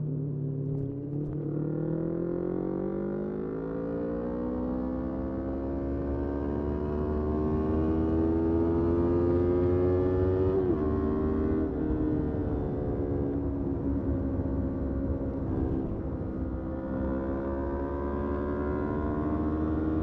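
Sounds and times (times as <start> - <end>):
motorcycle engine accelerating: 0.8 - 20.0.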